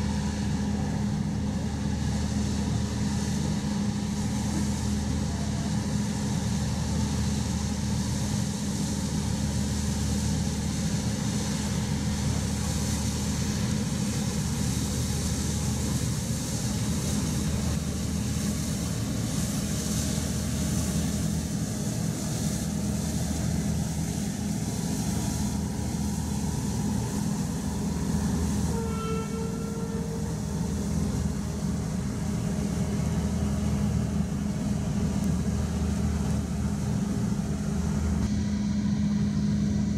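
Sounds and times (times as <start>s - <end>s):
low machinery hum: 0.0s - 39.9s.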